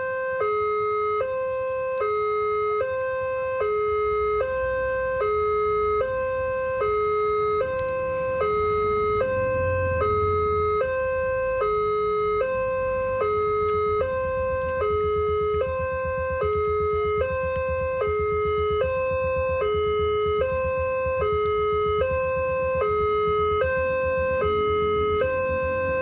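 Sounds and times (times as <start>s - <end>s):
level crossing alarm two-tone siren: 0.0s - 26.0s.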